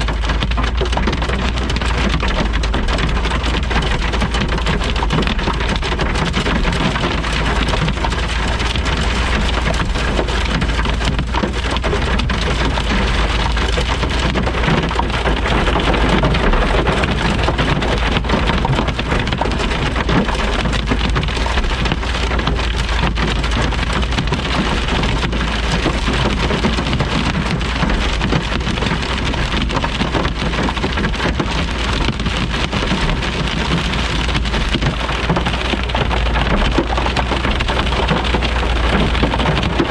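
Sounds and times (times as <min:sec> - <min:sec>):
deep thunder rumble: 0:00.0 - 0:39.9
heavy rain pouring: 0:00.0 - 0:39.9.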